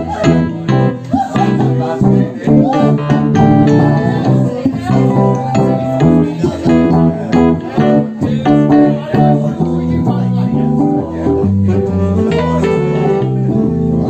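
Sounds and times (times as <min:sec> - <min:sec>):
electric guitar: 0:00.0 - 0:14.0
live band playing: 0:00.0 - 0:14.0.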